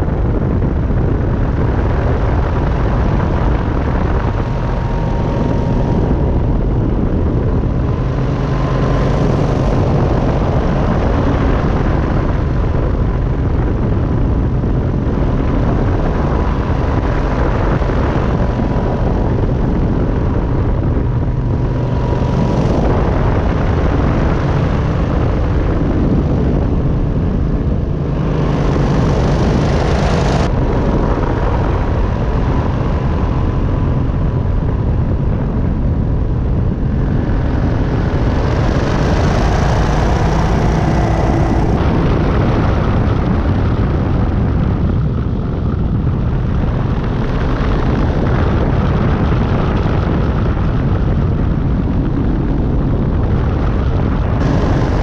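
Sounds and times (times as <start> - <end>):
engine and propeller rumble: 0.0 - 55.0.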